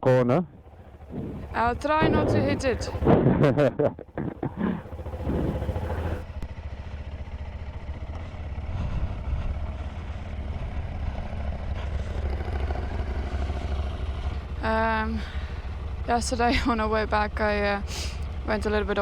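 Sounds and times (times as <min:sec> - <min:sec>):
motorcycle engine running: 0:00.1 - 0:19.0.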